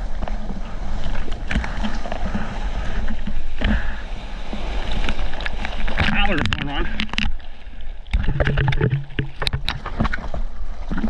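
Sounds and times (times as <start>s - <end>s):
ocean wave whitewater rushing: 0.0s - 11.0s.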